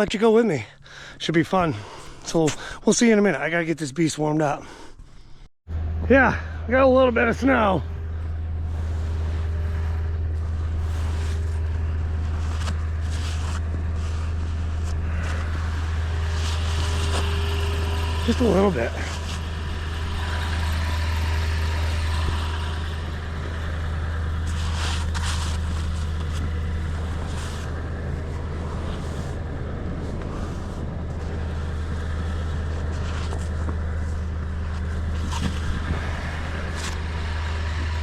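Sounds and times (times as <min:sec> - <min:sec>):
engine idling: 0:05.7 - 0:38.0.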